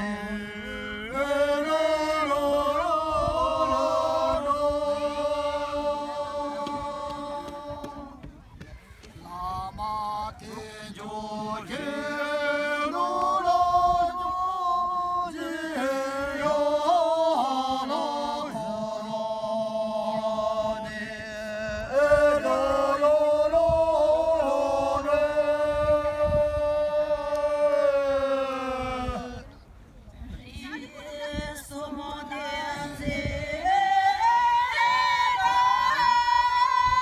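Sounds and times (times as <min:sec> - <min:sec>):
group singing in unison: 0:00.0 - 0:08.3, 0:09.3 - 0:29.5, 0:30.8 - 0:37.0.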